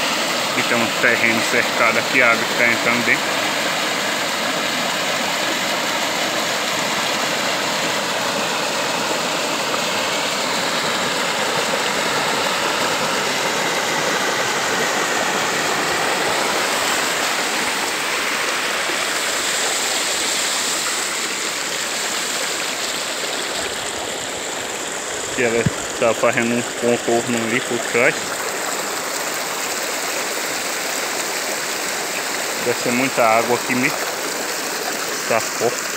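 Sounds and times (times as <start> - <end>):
water rushing over rocks: 0.0 - 35.9.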